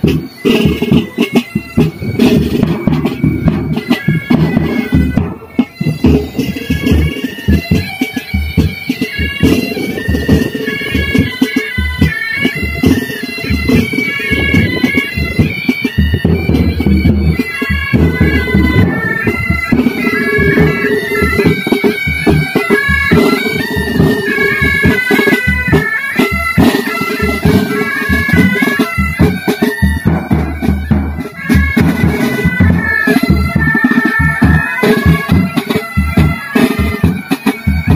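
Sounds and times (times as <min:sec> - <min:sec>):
bagpipes playing a march: 0:00.0 - 0:37.9
side drums beating: 0:00.0 - 0:37.9.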